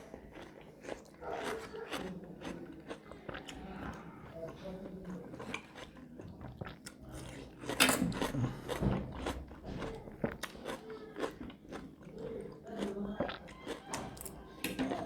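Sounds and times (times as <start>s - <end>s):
food being chewed: 0.0s - 15.0s.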